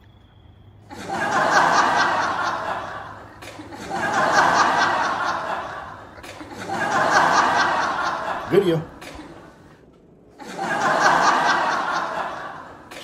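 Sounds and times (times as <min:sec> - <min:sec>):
people laughing: 0:00.8 - 0:13.0.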